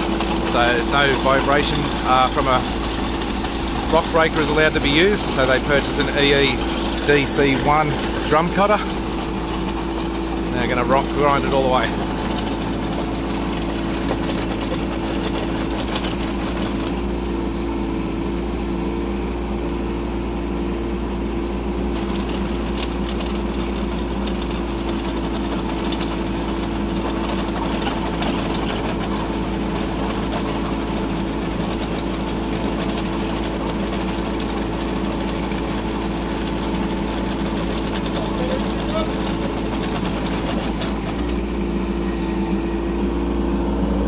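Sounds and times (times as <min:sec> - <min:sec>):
diesel engine running under load: 0:00.0 - 0:44.0.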